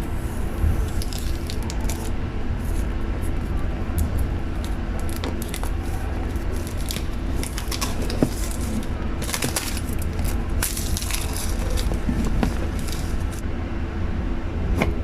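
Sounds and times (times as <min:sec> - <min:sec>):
crackling and rustling of handling: 0:00.0 - 0:13.4
steady low rumble: 0:00.0 - 0:15.0.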